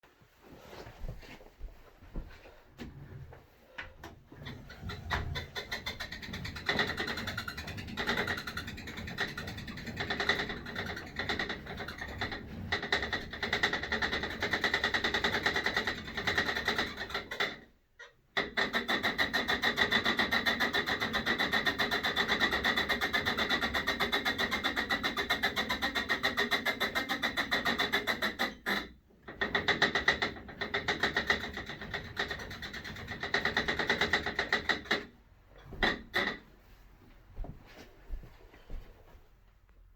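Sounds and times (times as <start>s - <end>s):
elliptical trainer creaking: 3.8s - 36.6s.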